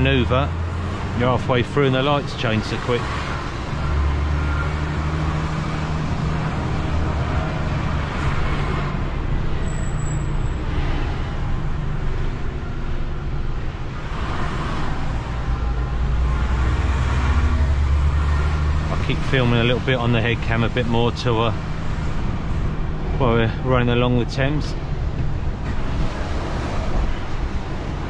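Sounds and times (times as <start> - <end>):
diesel truck engine under load: 0.0 - 28.0
road noise: 0.0 - 28.0.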